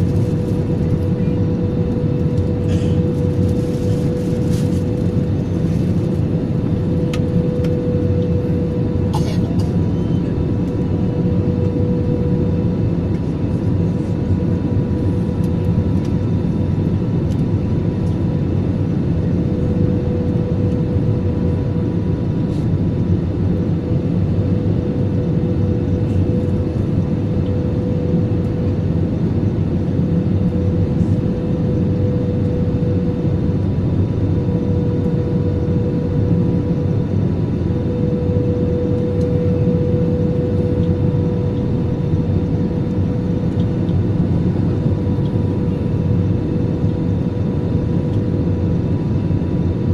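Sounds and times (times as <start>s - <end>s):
airliner cabin engine roar: 0.0s - 49.9s
constant hum tone: 0.0s - 49.9s.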